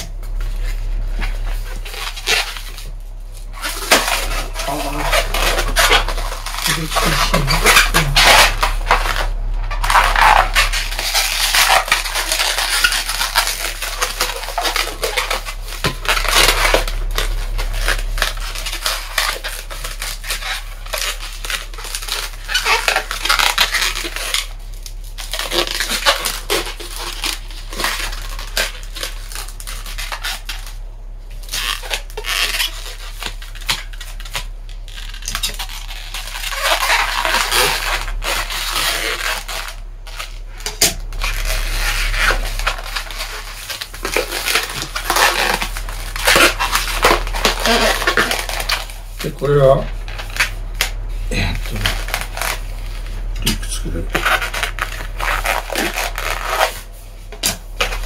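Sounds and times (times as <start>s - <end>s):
balloons rubbing and squeaking: 0.0s - 58.0s.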